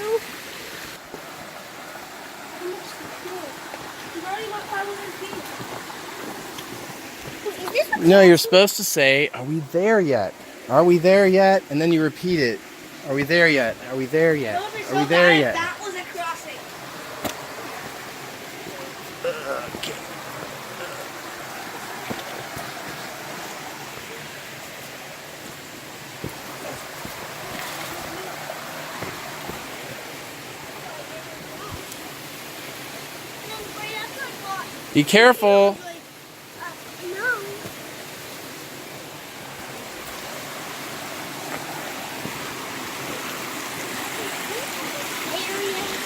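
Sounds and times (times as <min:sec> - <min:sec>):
stream flowing over rocks: 0:00.0 - 0:46.0.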